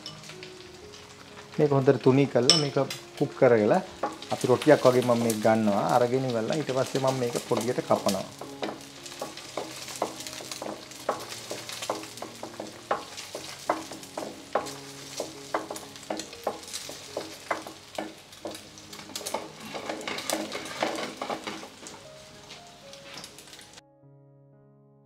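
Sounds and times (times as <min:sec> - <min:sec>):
egg sizzling in a pan: 0:00.0 - 0:23.8.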